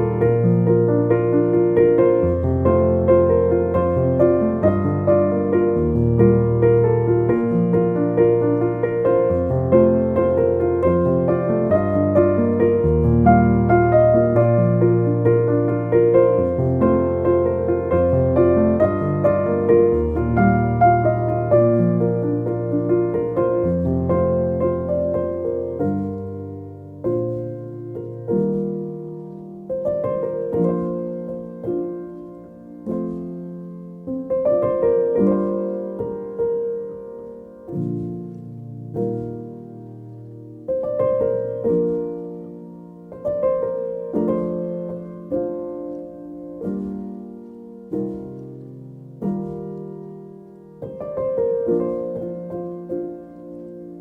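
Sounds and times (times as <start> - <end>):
slow piano chords: 0.0 - 54.0.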